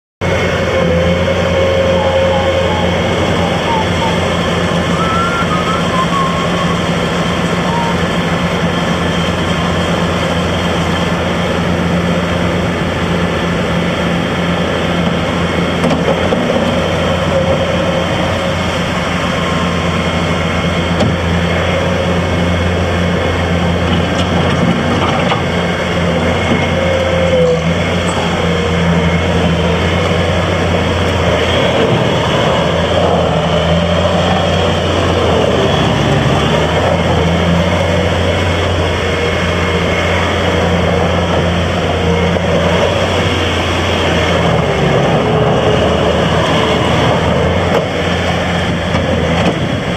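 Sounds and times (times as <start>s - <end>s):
diesel loader engine running: 0.2s - 49.9s.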